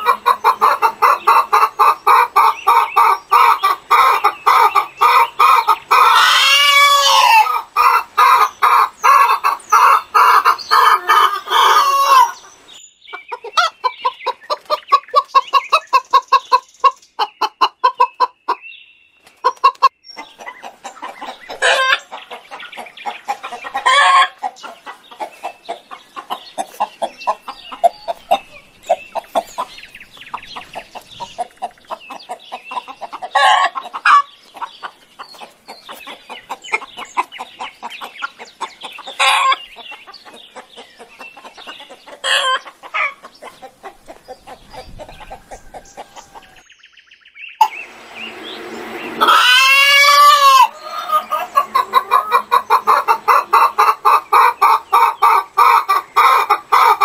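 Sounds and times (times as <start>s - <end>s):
chicken drawn-out calls: 0.0s - 18.6s, 19.3s - 46.6s, 47.6s - 57.0s
chickens clucking: 0.0s - 46.7s, 47.6s - 57.0s.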